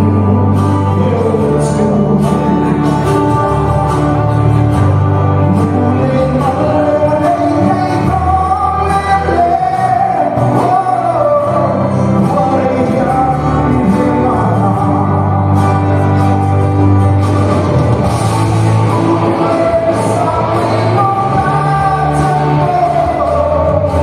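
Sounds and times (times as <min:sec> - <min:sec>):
man singing into a microphone: 0:00.0 - 0:03.4, 0:05.3 - 0:16.4, 0:18.6 - 0:24.0
instrumental accompaniment: 0:00.0 - 0:24.0.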